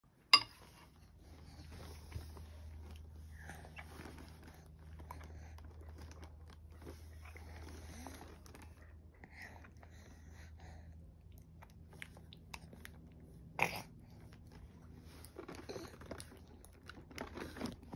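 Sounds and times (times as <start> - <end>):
baby chewing wet mouth sounds: 1.5 - 17.9.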